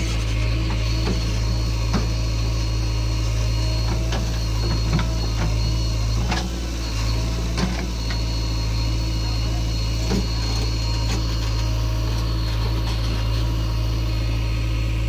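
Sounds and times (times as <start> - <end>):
heavy machinery diesel engine running: 0.0 - 15.0.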